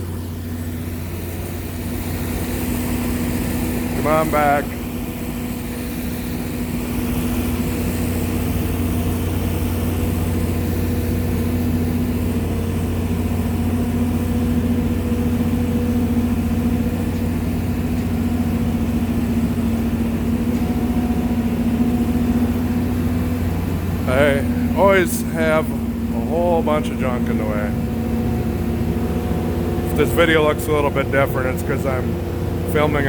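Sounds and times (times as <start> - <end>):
loader engine running: 0.0 - 33.0.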